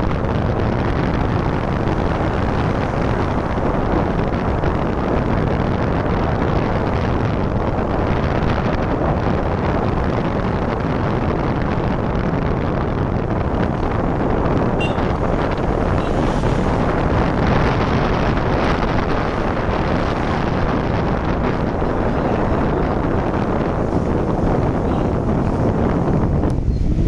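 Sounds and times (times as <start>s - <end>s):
motorbike road noise: 0.0s - 27.0s
wind buffeting microphone: 0.0s - 27.0s.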